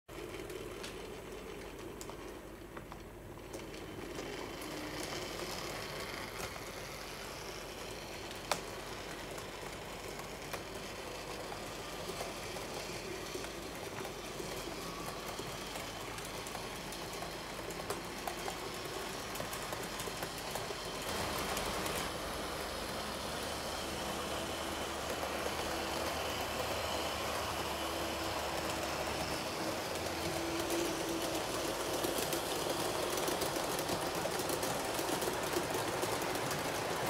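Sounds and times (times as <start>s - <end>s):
model train rolling rattle: 0.1s - 37.0s.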